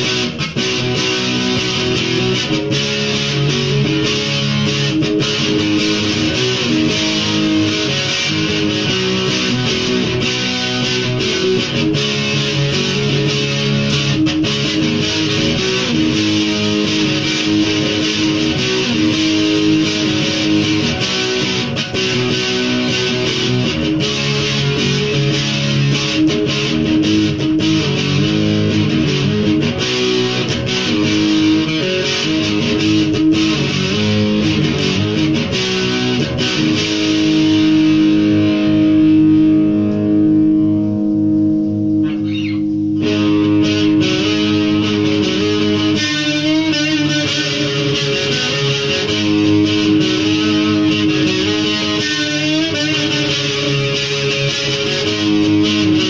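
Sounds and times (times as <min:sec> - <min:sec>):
electric guitar solo: 0:00.0 - 0:56.0
ringing guitar chord: 0:00.0 - 0:56.0.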